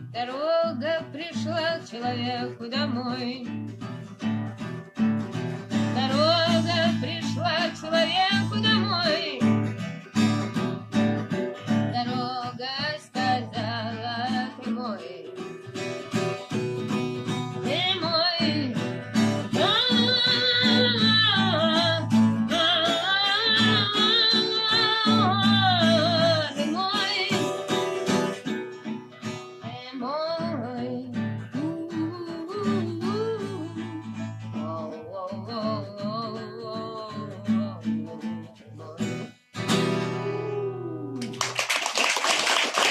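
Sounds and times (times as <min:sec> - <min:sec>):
strummed acoustic guitar chords: 0:00.0 - 0:41.3
bending guitar lead melody: 0:00.9 - 0:41.4.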